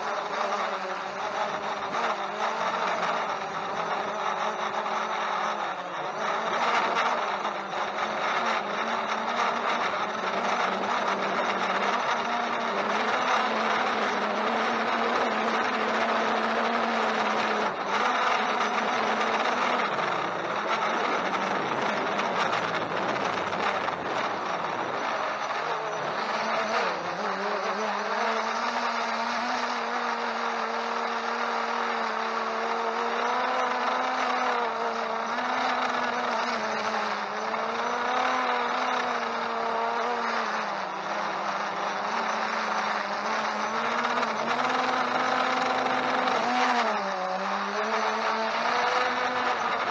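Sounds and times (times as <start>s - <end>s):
drone propellers whining: 0.0s - 49.9s.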